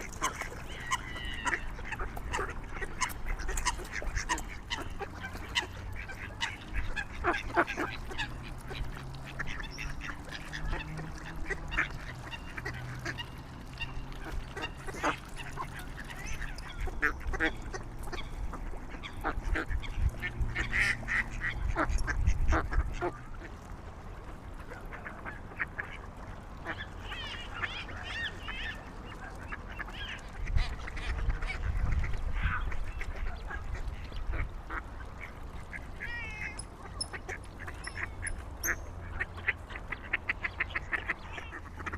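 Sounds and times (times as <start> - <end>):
waterfowl calling: 0.0 - 23.6, 24.7 - 41.9.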